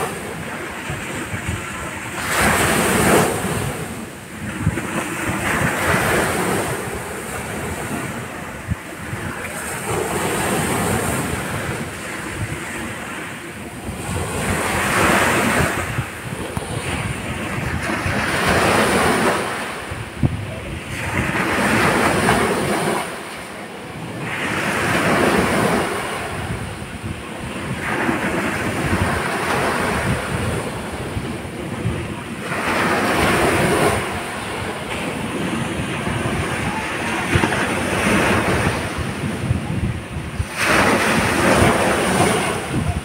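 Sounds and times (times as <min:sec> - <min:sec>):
waves breaking on beach: 0:00.0 - 0:43.0
wind buffeting microphone: 0:00.0 - 0:43.0.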